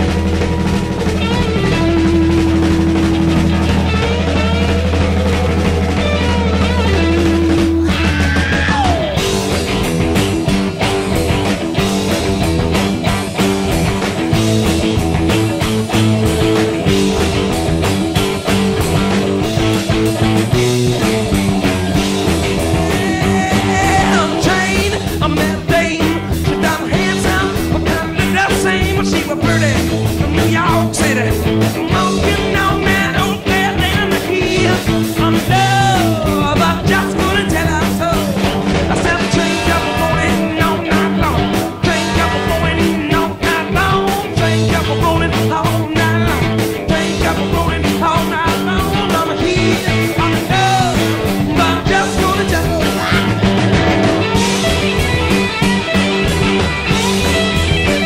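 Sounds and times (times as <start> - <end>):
hard rock band playing live: 0.0 - 58.0.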